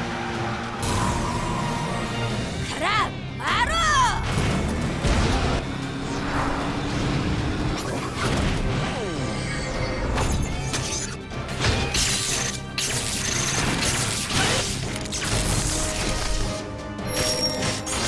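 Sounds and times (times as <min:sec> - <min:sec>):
dramatic cartoon music: 0:00.0 - 0:18.0.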